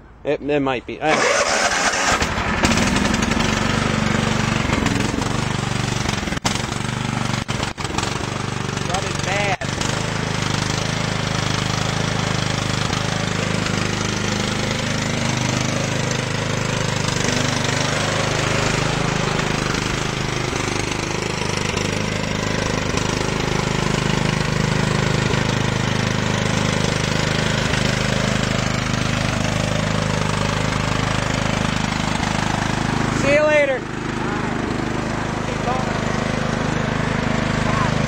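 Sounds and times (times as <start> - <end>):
lawn tractor engine running: 1.0 - 38.0.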